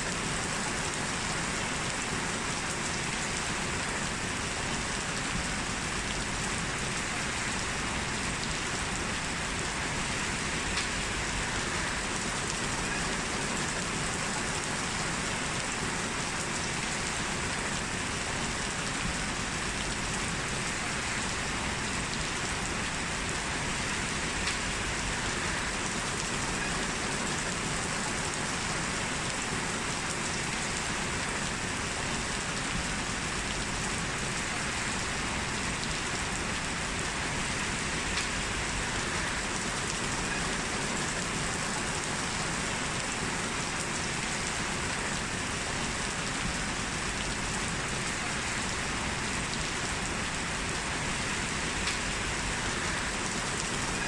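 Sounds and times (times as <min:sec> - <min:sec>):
heavy rain on hard surfaces: 0:00.0 - 0:54.0.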